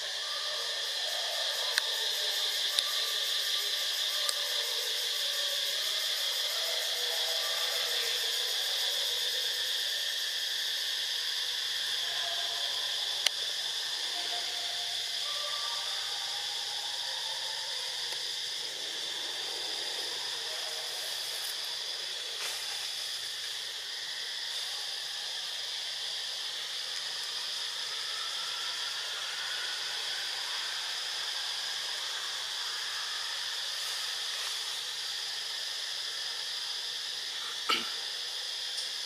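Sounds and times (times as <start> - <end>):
high-pitched insect chorus: 0.0 - 39.0.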